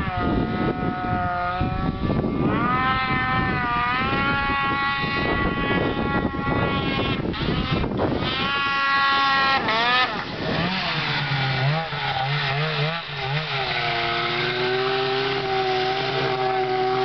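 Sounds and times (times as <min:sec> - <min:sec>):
snowmobile engine under throttle: 0:00.0 - 0:17.0.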